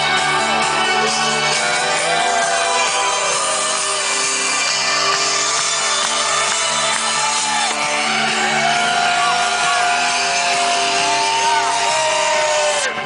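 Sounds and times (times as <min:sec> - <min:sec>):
electronic trance music: 0:00.0 - 0:13.0.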